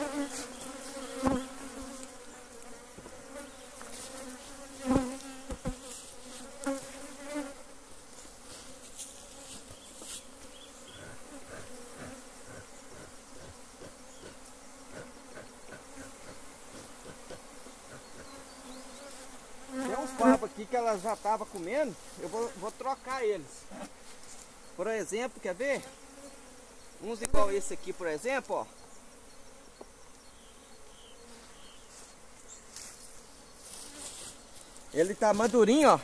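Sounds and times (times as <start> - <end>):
honeybees buzzing: 0.0 - 36.0.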